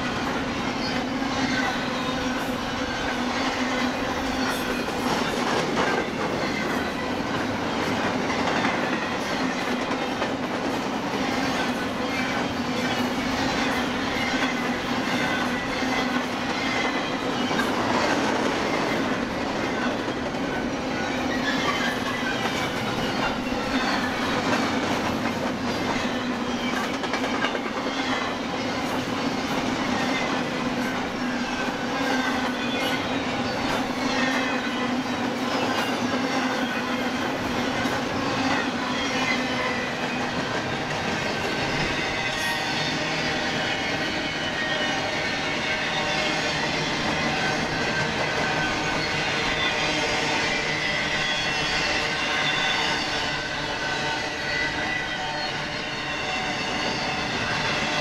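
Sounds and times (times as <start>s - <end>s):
freight train wheels clacking: 0.0s - 58.0s.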